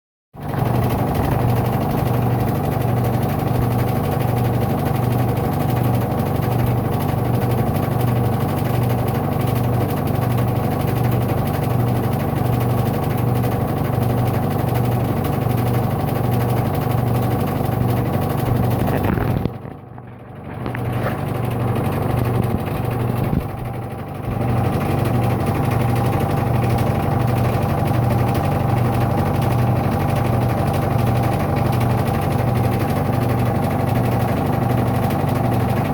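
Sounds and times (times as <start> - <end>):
washing machine running: 0.4 - 35.9.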